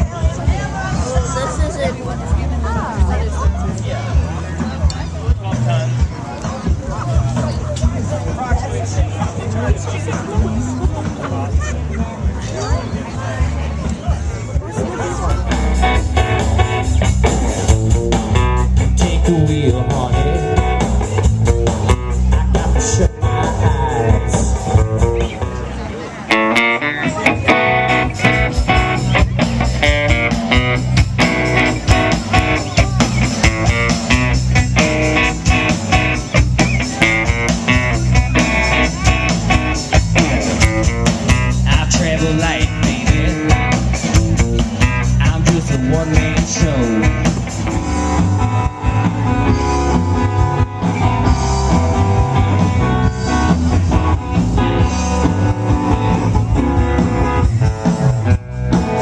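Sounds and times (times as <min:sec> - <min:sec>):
blues-rock music with guitar and drums: 0:00.0 - 0:59.0.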